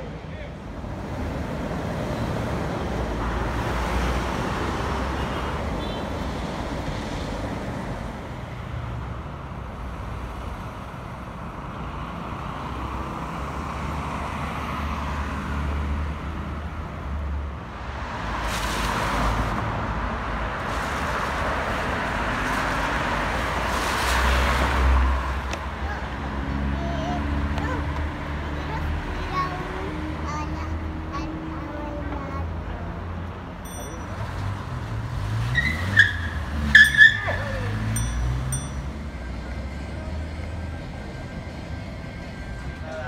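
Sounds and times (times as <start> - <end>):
hum of passing cars: 0.0 - 43.0
louder vehicle passing: 0.8 - 9.2, 11.8 - 42.9.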